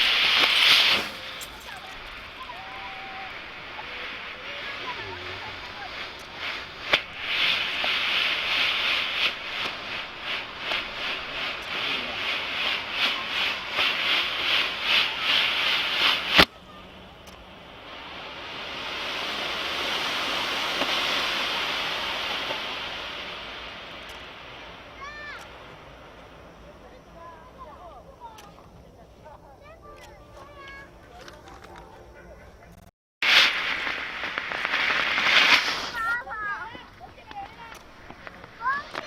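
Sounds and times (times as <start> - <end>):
sharp crack: 0.0 - 27.0, 32.8 - 39.0
smoke firework hissing: 0.0 - 31.7, 33.2 - 39.0.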